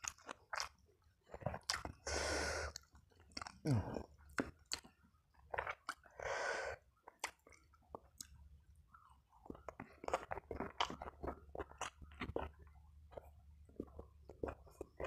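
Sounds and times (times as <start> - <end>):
close-up chewing: 0.0 - 15.0.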